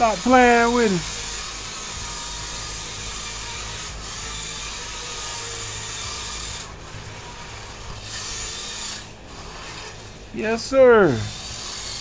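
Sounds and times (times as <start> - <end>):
toy car electric motor running: 0.0 - 12.0.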